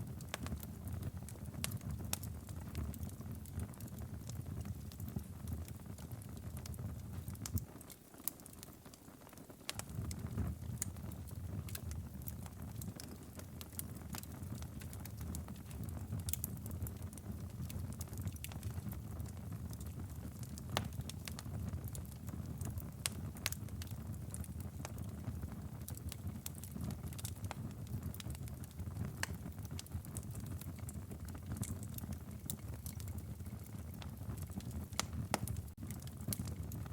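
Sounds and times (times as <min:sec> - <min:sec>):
fire crackling and popping: 0:00.0 - 0:36.9
low rumble of flame: 0:00.0 - 0:36.9.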